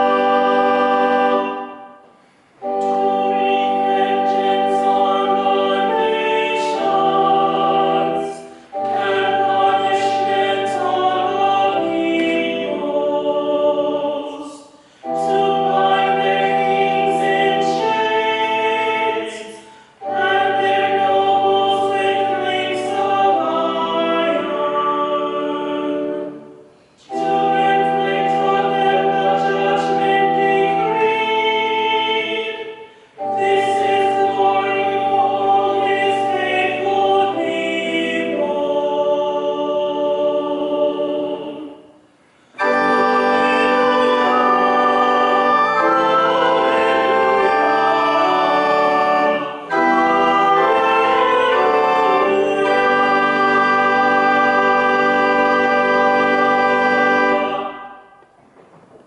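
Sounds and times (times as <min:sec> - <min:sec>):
choir singing in harmony: 0:00.0 - 0:58.2.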